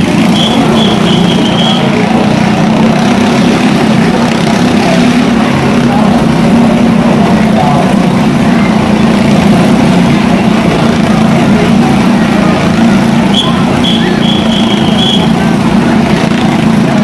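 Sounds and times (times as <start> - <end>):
motorcycle engines droning: 0.0 - 17.0.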